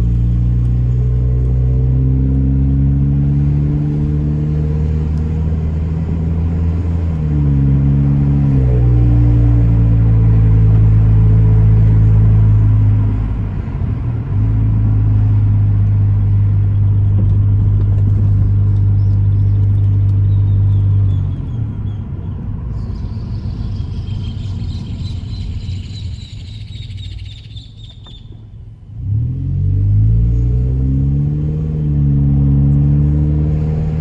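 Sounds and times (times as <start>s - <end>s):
car engine and exhaust droning: 0.0s - 34.0s.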